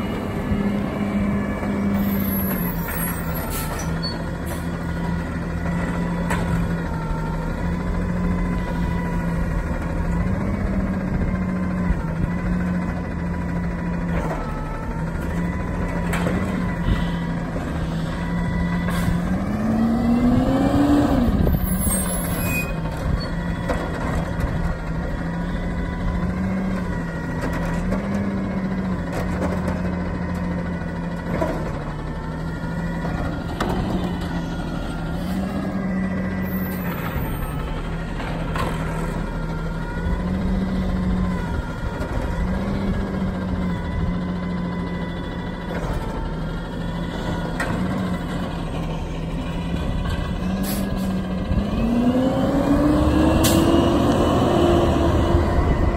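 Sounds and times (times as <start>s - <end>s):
engine revving: 0.0s - 23.0s, 23.6s - 55.9s.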